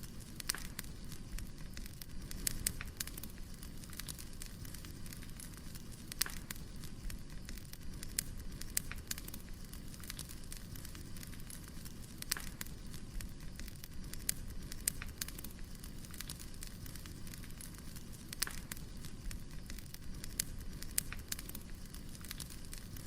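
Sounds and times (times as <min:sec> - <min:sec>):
firewood burning with pops: 0:00.0 - 0:23.0.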